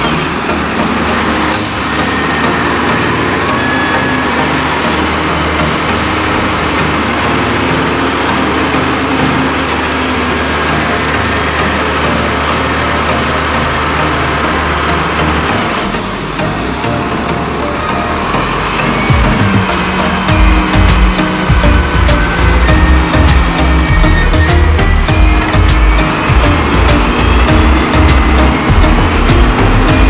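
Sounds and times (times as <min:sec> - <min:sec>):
dump truck diesel engine: 0:00.0 - 0:30.0
wheel loader engine: 0:00.0 - 0:30.0.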